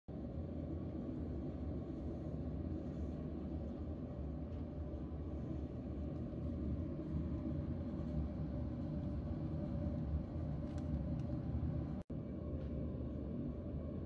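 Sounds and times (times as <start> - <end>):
heater fan blowing air: 0.1 - 14.0.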